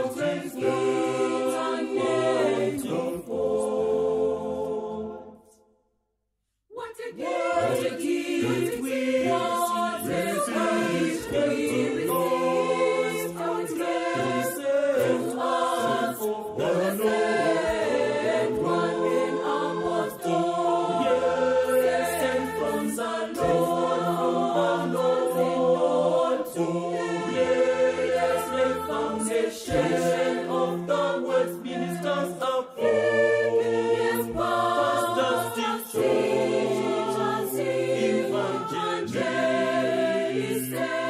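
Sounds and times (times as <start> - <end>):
choir singing in harmony: 0.0 - 5.6, 6.7 - 41.0.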